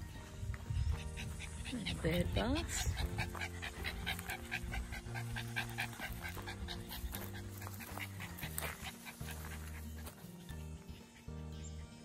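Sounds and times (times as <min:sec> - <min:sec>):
dog panting: 0:00.8 - 0:11.2.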